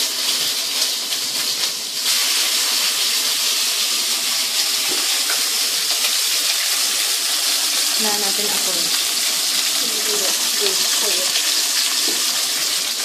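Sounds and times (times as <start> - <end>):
chicken wings frying in oil: 0.0 - 13.0.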